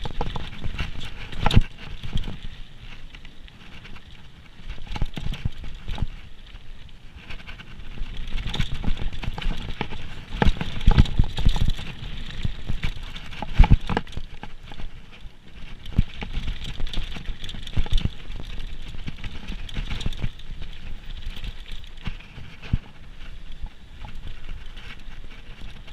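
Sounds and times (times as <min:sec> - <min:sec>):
mountain bike rattling over rough ground: 0:00.0 - 0:25.9.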